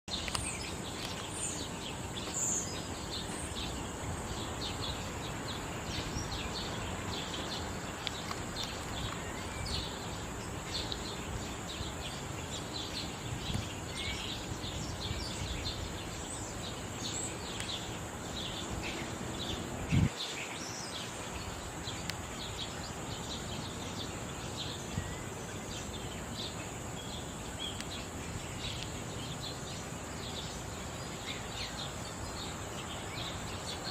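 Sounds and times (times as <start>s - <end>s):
small birds chirping: 0.0s - 33.9s
background hiss: 0.1s - 33.9s.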